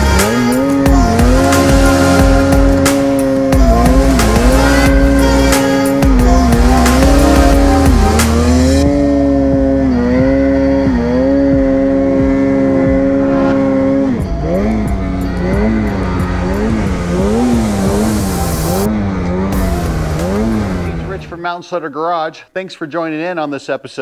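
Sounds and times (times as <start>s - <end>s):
snowmobile engine revving: 0.0s - 21.6s.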